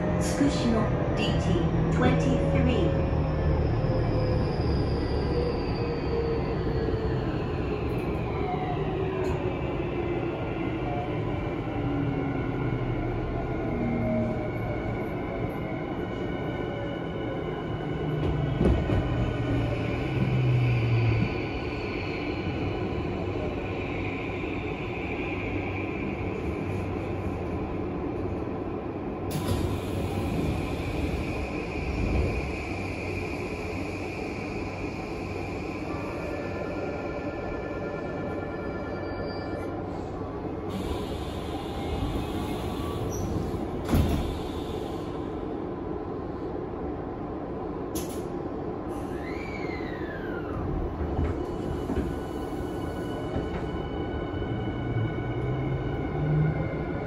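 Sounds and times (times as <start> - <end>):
train wheels rumbling on track: 0.0 - 36.8, 39.6 - 57.0.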